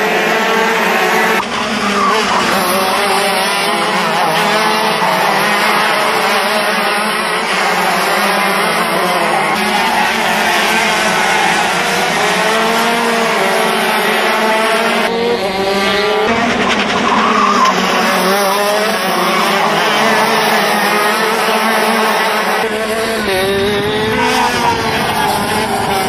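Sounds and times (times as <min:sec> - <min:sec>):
kart engines at high revs: 0:00.0 - 0:26.0.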